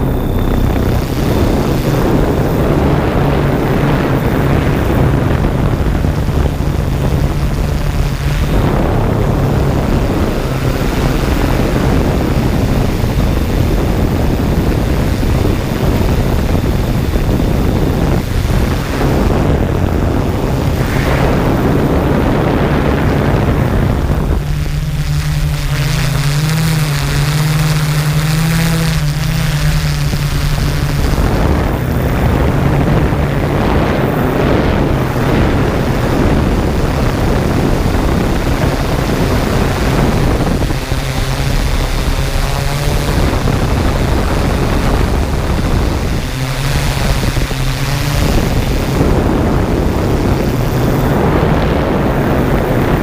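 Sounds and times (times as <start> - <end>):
drone propellers humming: 0.0 - 53.0.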